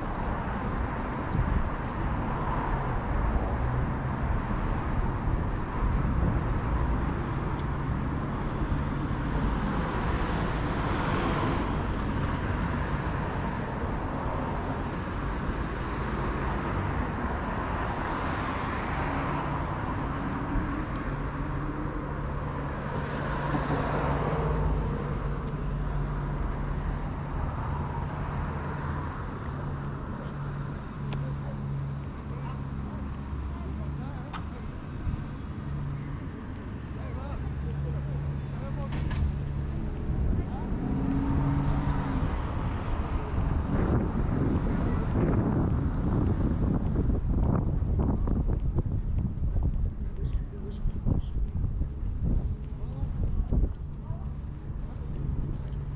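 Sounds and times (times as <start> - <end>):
cars passing: 0.0 - 55.9
low rumble of city traffic: 0.0 - 55.9.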